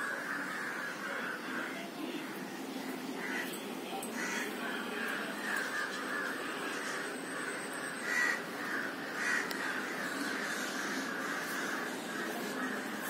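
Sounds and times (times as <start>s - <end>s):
crows cawing: 0.0s - 13.0s.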